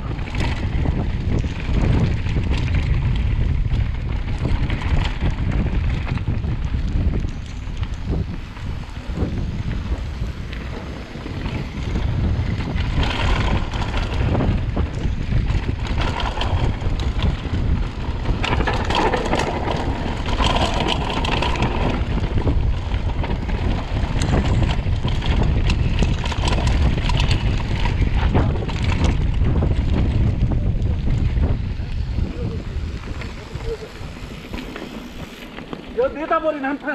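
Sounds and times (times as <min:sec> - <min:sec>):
bike rattling over bumps: 0:00.0 - 0:36.9
tyres running over dirt: 0:00.0 - 0:36.9
wind on microphone: 0:00.0 - 0:36.9.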